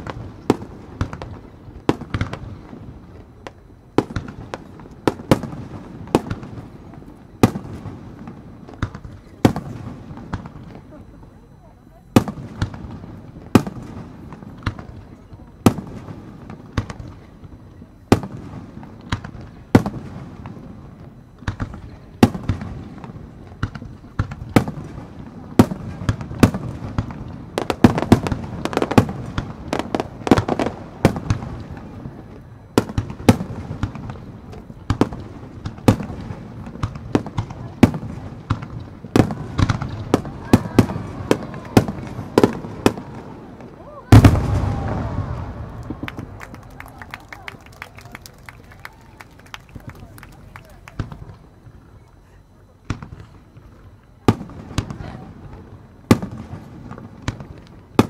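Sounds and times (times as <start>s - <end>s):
fireworks bursting with bangs: 0.0s - 58.0s.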